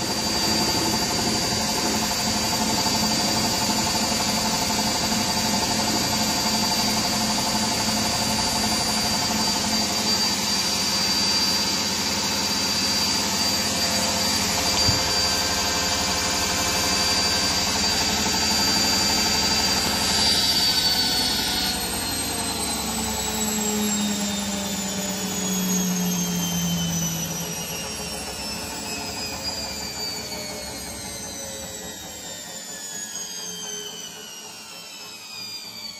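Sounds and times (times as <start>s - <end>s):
high motor whine: 0.0s - 35.9s
washing machine spinning: 0.0s - 35.9s.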